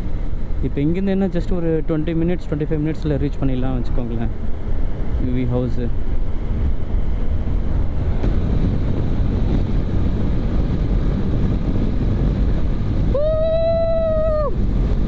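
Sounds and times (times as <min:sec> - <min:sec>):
low engine rumble: 0:00.0 - 0:15.0
wind buffeting microphone: 0:00.0 - 0:15.0.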